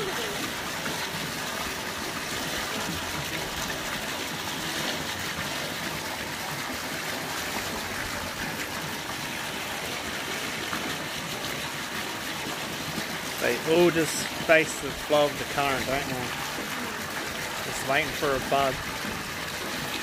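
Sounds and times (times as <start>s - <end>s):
running water in a pond: 0.0s - 20.0s.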